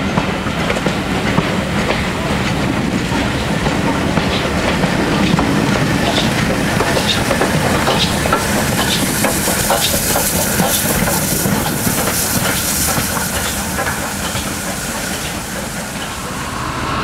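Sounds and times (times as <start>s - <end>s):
steam hissing: 0.0s - 17.0s
wheels clicking over rail joints: 0.0s - 17.0s.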